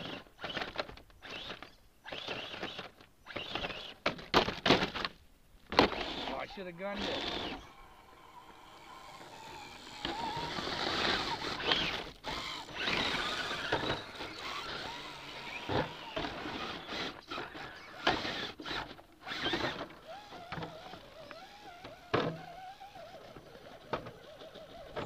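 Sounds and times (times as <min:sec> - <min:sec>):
toy car electric motor whining: 0:00.0 - 0:04.2, 0:05.7 - 0:25.0.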